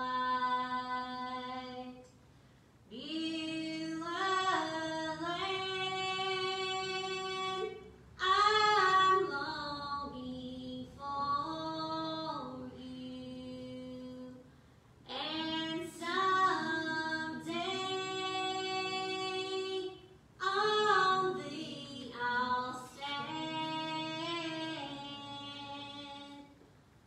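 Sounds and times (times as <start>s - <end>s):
woman singing a slow church song: 0.0s - 2.2s, 2.9s - 26.6s.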